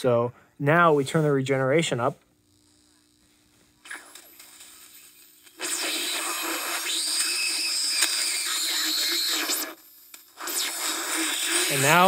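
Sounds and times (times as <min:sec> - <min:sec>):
radio static hiss: 0:00.7 - 0:12.0.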